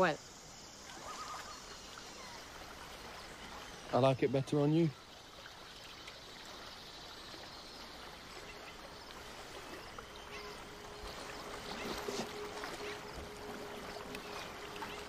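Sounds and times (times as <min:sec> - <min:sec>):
faint steady hum: 0:00.0 - 0:15.0
water lapping and splashing: 0:00.0 - 0:15.0.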